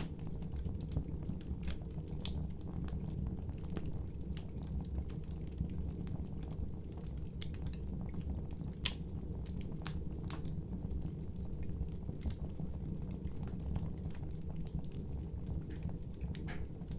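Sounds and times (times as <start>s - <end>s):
fire crackles and pops: 0.0s - 16.9s
fire rumbling: 0.0s - 16.9s.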